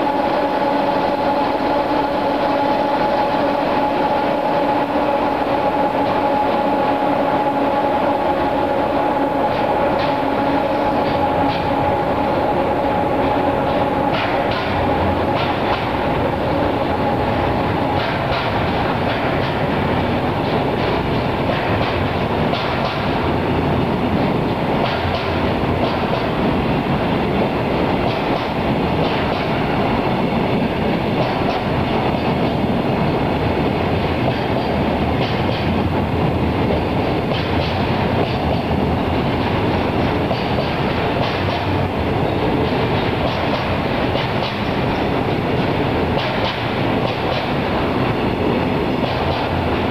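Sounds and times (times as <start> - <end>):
wheels clacking over rail joints: 8.4 - 49.9.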